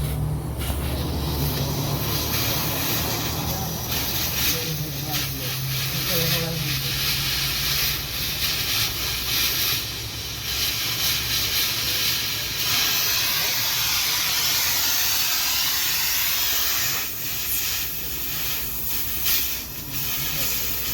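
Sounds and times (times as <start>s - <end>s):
steady rushing hiss: 0.0s - 20.9s.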